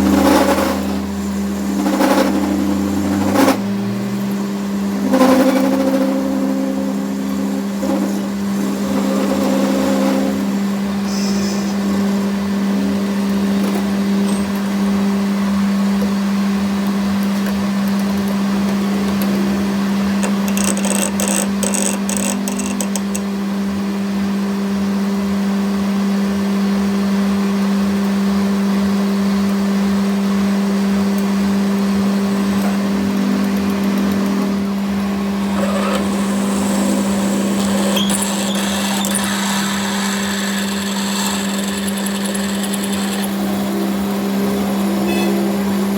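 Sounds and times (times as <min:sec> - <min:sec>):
power tool humming: 0:00.0 - 0:25.1, 0:30.0 - 0:45.9.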